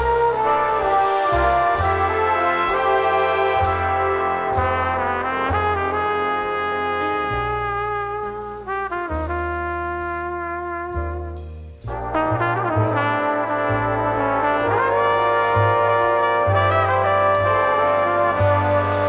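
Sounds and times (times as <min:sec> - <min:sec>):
brass instruments playing chords: 0:00.0 - 0:19.0.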